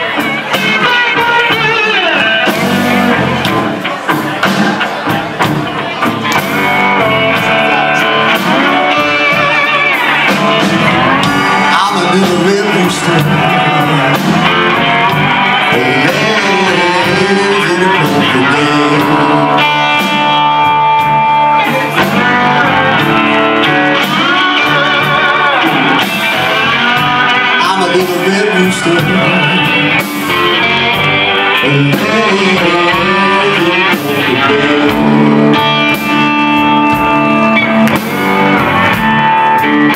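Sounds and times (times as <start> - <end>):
blues band playing: 0.0 - 39.9
slide guitar: 0.0 - 39.9.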